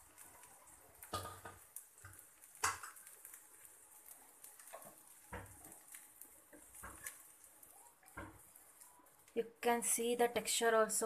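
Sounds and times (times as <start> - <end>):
food sizzling on a hot pan: 0.0 - 11.0.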